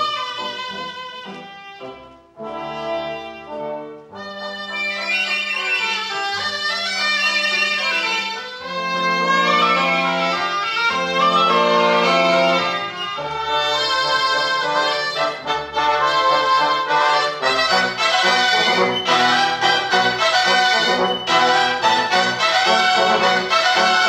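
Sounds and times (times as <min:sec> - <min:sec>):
brass ensemble melody: 0:00.0 - 0:24.0.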